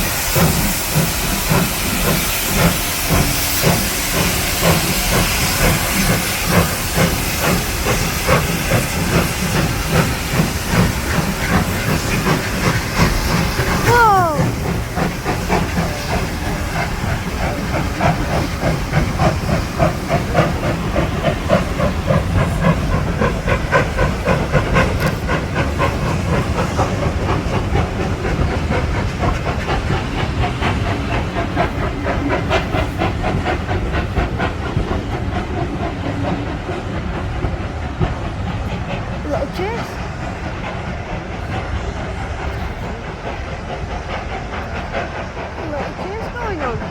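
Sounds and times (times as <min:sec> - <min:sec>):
steam locomotive hissing: 0:00.0 - 0:46.9.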